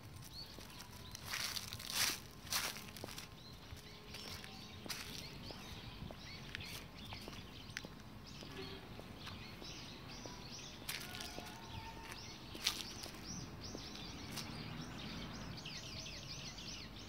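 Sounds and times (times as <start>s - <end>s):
footsteps on dry leaves: 0.0s - 15.3s
small birds chirping: 0.0s - 17.0s.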